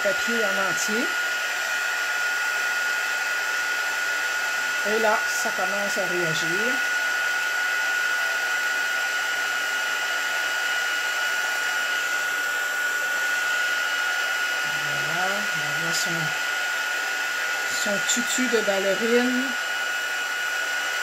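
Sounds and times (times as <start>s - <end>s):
heat gun blowing with fan whine: 0.0s - 21.0s.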